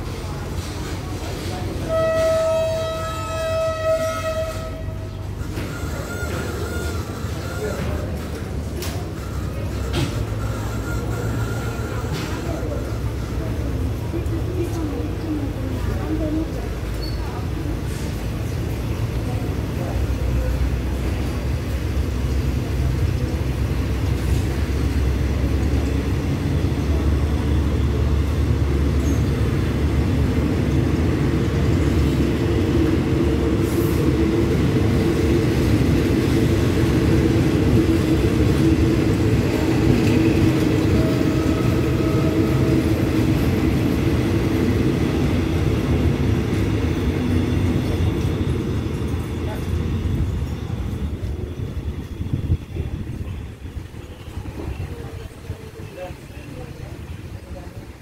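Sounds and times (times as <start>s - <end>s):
train coaches rumbling: 0.0s - 58.0s.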